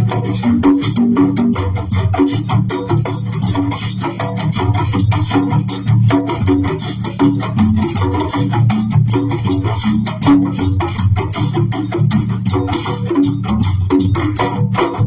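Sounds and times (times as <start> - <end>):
hand drums beating: 0.0 - 15.0
shakers rattling: 0.0 - 15.0.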